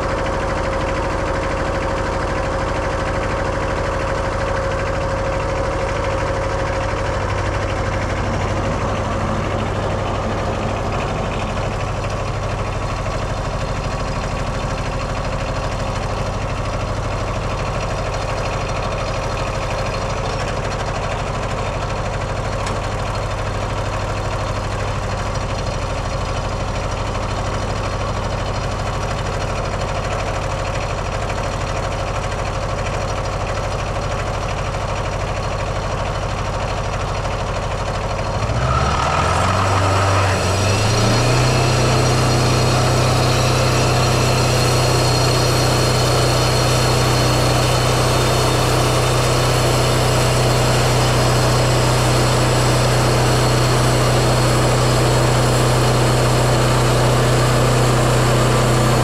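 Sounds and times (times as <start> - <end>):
sawmill diesel engine running: 0.0 - 59.0.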